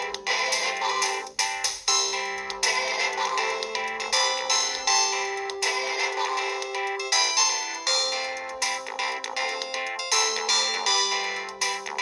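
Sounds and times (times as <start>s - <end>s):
phone ringtone melody: 0.0s - 12.0s.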